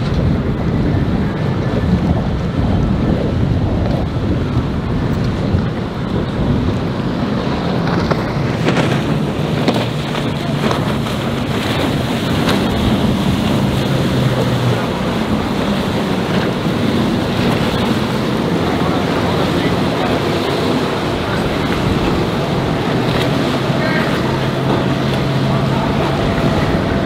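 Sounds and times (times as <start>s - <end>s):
outboard motor drone: 0.0s - 27.0s
water rushing: 0.0s - 27.0s
wind buffeting microphone: 0.0s - 27.0s.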